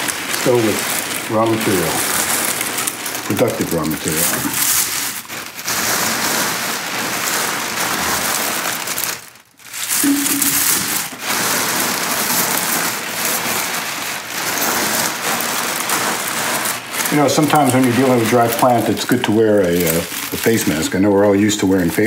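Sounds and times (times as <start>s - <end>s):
dried leaves crackling: 0.0s - 22.0s
plastic bag crinkling: 0.0s - 22.0s.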